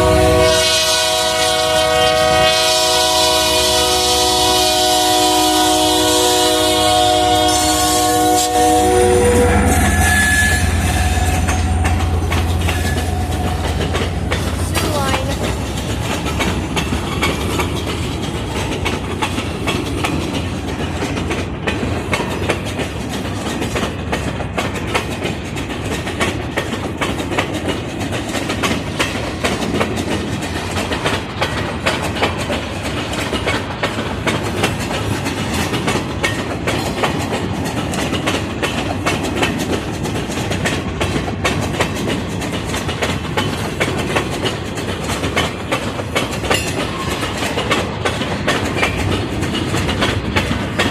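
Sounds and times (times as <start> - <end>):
train wheels clattering over rail joints: 0.0 - 50.9.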